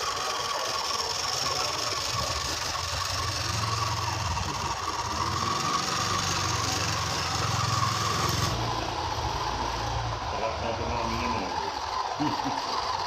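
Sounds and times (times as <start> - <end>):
toy truck rattle: 0.0 - 10.2, 10.8 - 13.0
toy truck motor drone: 0.0 - 13.0.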